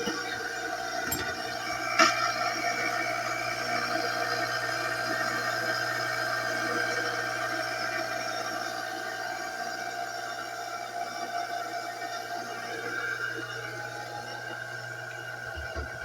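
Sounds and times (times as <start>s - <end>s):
pump motor humming and whining: 0.0s - 16.0s.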